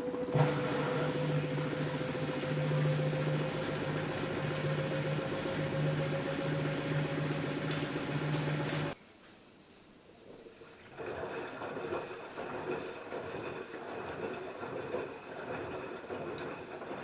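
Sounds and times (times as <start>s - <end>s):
washing machine running: 0.0s - 9.0s, 10.6s - 17.0s.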